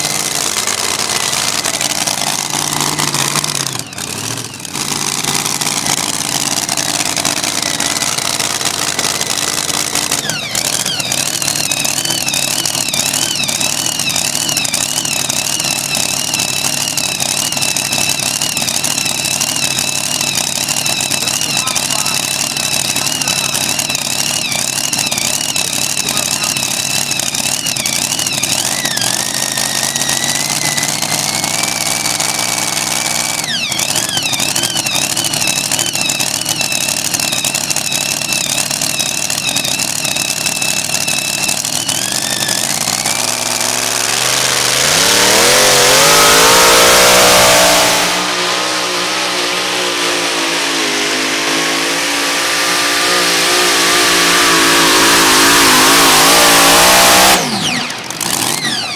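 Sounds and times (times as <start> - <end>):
supercharged truck engine revving: 0.0 - 58.9.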